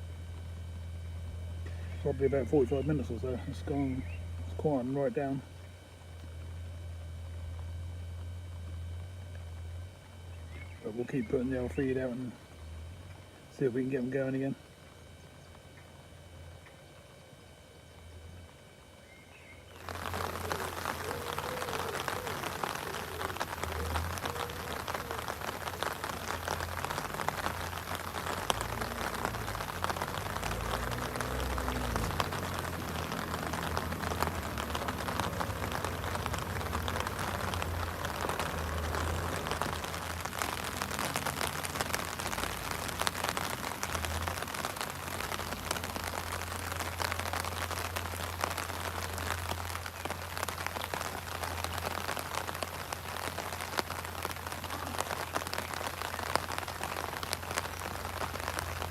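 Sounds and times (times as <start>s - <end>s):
rain pattering on umbrella: 0.0s - 17.2s, 19.7s - 58.9s.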